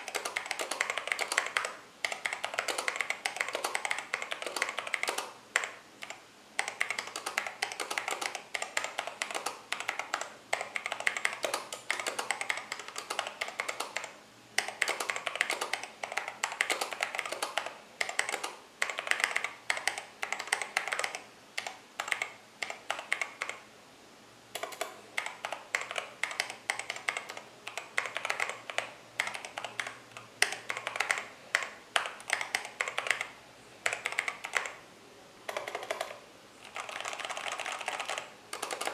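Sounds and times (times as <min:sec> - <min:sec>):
mechanical keyboard typing: 0:00.0 - 0:23.6, 0:24.6 - 0:34.8, 0:35.5 - 0:38.9.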